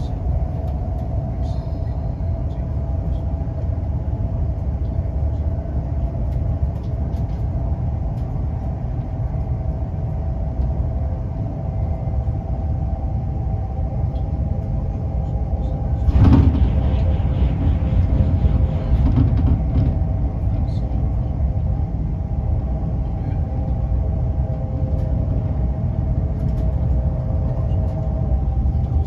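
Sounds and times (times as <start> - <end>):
passing train rush: 0.0 - 29.0
train wheels rumbling on track: 0.0 - 29.0.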